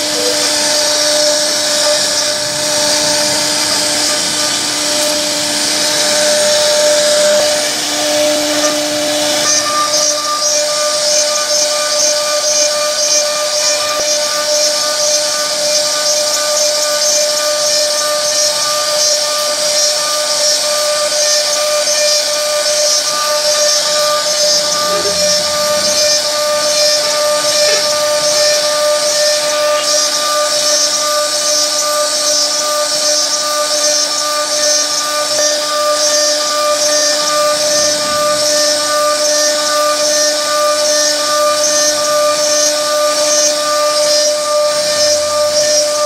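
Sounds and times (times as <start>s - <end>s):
bit rasping into wood: 0.0s - 46.0s
router spindle whine: 0.0s - 46.0s.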